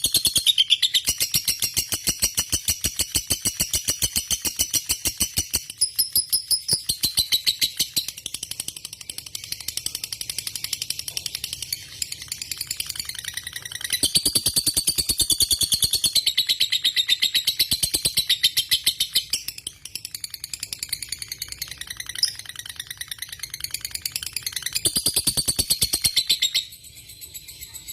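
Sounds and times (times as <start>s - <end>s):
bird chattering song: 0.0s - 27.9s.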